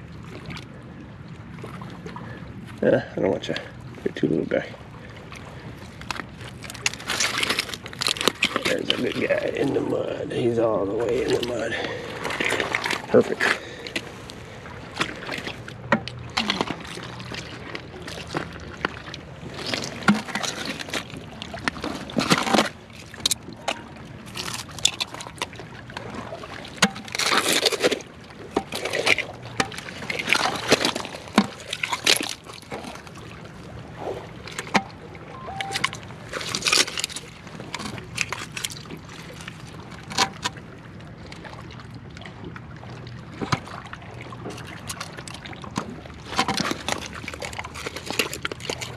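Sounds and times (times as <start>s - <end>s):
water sloshing: 0.0s - 48.9s.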